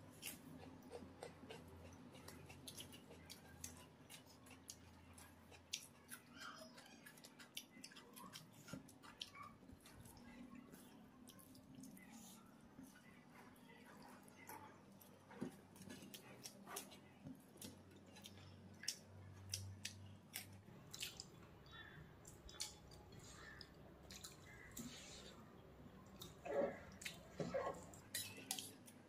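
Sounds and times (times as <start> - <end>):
chewing mouth clicks and smacks: 0.2 - 13.0, 14.0 - 21.5, 22.2 - 25.2, 26.0 - 29.0.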